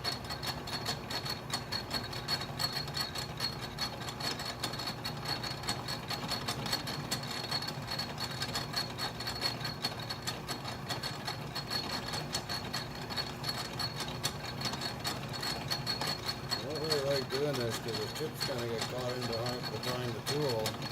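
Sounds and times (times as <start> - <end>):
metal lathe whining: 0.1 - 20.9.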